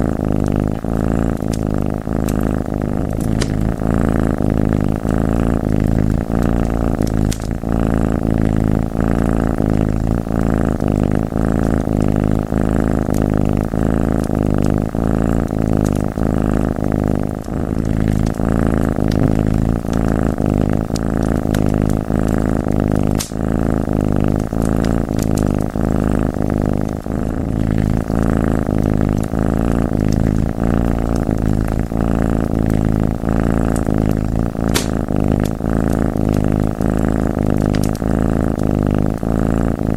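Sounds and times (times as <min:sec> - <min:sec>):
cat purring: 0:00.0 - 0:39.9
faint fire crackles: 0:00.1 - 0:39.9.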